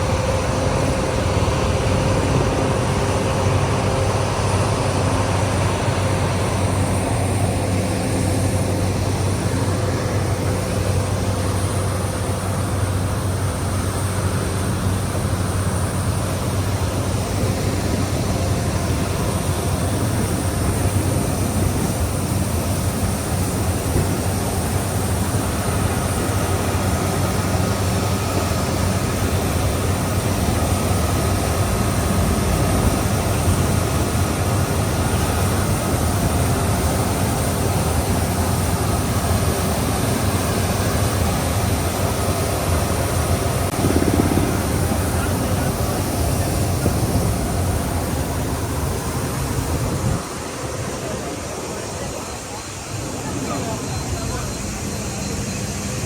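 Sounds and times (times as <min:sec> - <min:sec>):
aircraft engine roar: 0:00.0 - 0:56.0
high steady whine: 0:00.0 - 0:56.0.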